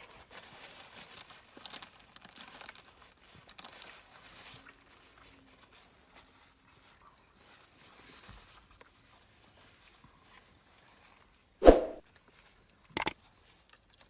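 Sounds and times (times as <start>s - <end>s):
faint rustling and crinkling: 0.0s - 14.0s.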